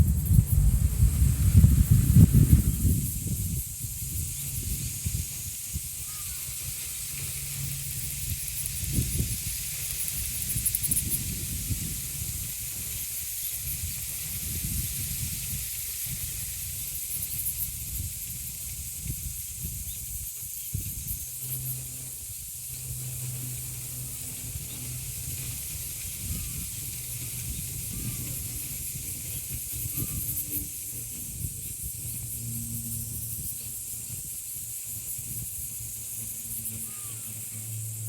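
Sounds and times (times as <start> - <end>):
cicadas droning: 0.0 - 38.0
wind gusting through leaves: 0.0 - 38.0.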